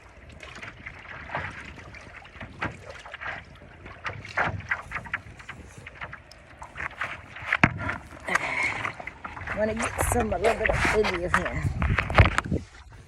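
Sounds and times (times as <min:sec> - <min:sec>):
water splashing around paddleboard: 0:00.0 - 0:13.0
wind buffeting microphone: 0:00.0 - 0:13.0.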